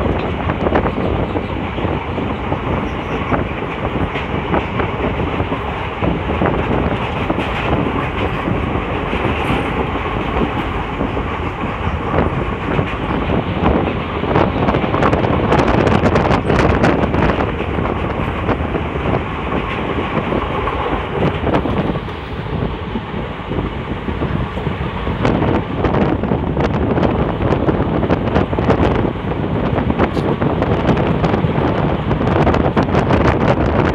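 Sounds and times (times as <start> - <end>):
train wheels clattering on rails: 0.0 - 33.9.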